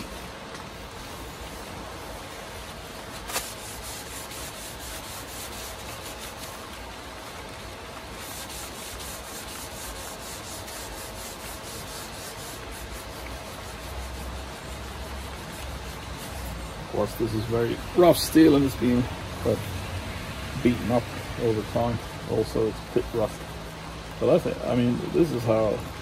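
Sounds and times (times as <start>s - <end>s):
cloth wiping wet metal bar: 0.0s - 26.0s.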